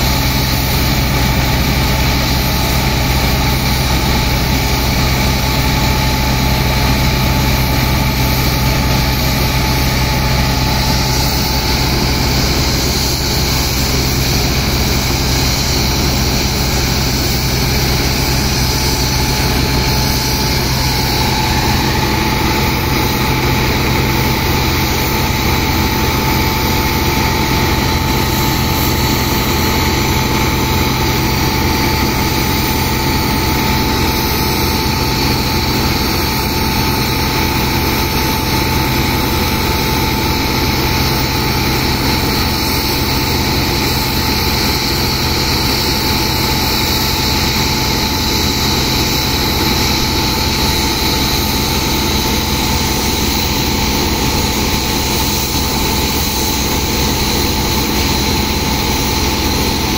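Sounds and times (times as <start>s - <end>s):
engine-driven pump running: 0.0s - 59.9s.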